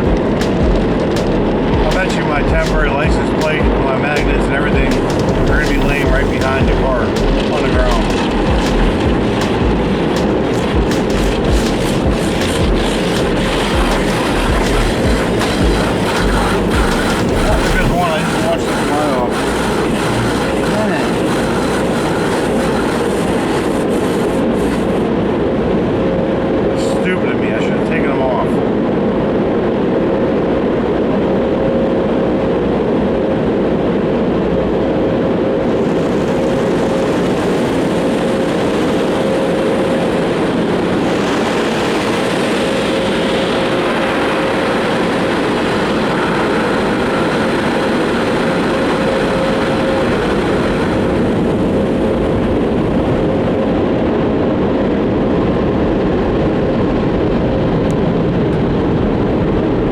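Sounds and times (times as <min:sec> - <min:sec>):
car wash machinery and water: 0:00.0 - 0:59.9
constant hum: 0:00.0 - 0:59.9.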